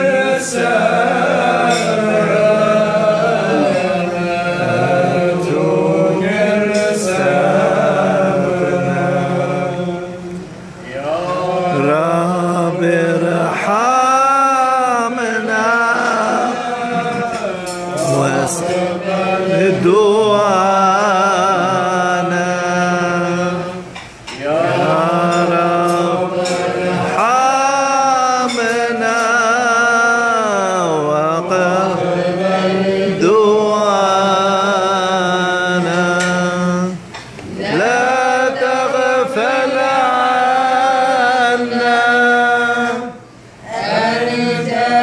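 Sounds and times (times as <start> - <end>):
man chanting unaccompanied: 0.0 - 43.2.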